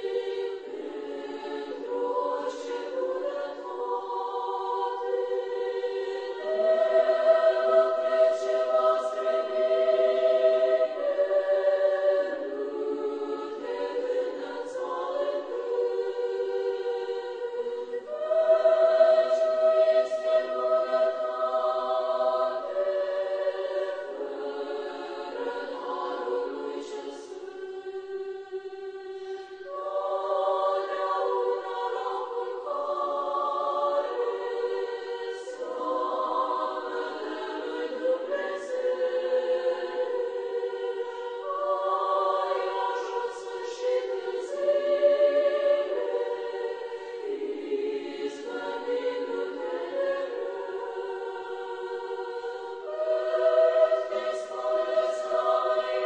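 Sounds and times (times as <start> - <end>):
choir singing long-held chords: 0.0 - 56.0.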